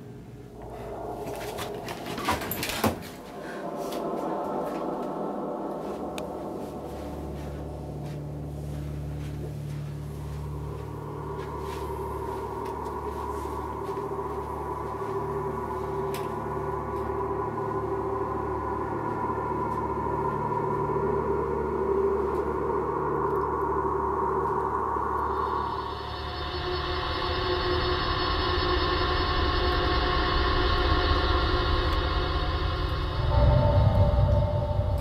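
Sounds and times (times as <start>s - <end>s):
droning film score tones: 0.0s - 35.0s.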